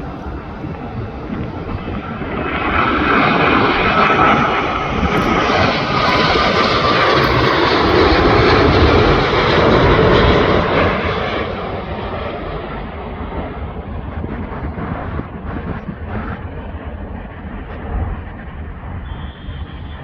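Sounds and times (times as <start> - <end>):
jet airliner rumble and whine: 0.0 - 20.0.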